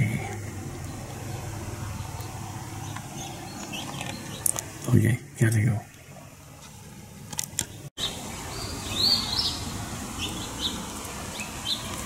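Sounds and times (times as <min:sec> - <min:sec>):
songbird chirping: 0:00.0 - 0:05.1, 0:05.9 - 0:12.0
outdoor background noise: 0:00.0 - 0:12.0.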